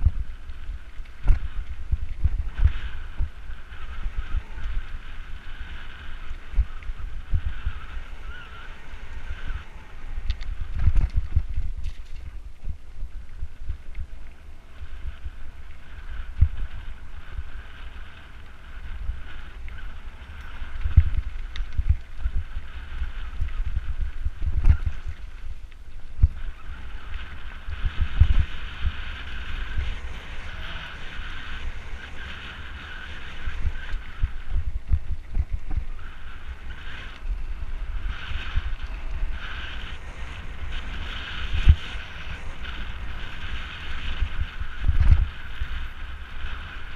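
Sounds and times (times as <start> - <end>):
bike rolling on gravel: 0.0 - 46.9.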